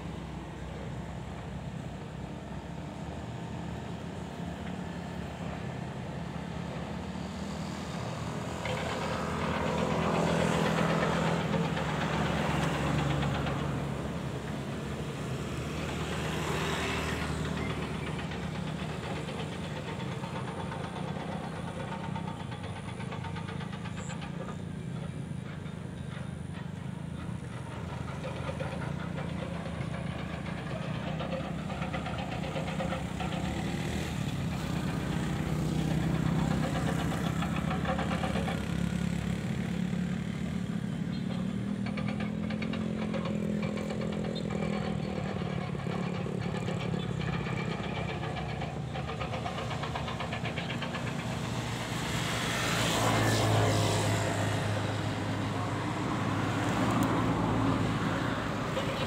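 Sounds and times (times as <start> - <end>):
vehicle engines running: 0.0 - 59.0
vehicles passing by: 0.0 - 59.0.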